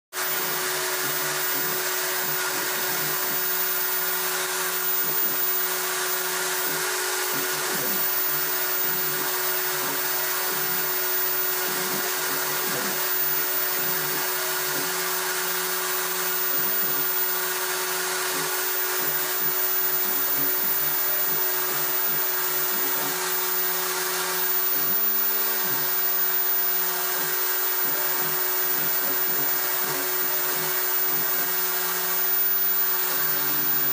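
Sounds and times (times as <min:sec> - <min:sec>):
low motor tones: 0:00.2 - 0:33.9
spindle whine: 0:00.2 - 0:33.9.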